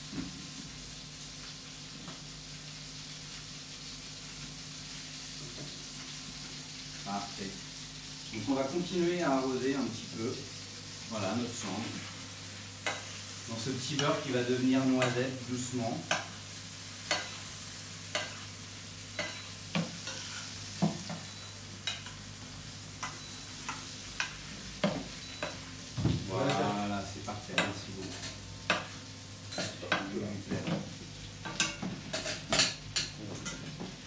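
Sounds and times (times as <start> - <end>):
fish sizzling in a pan: 0.0 - 34.0.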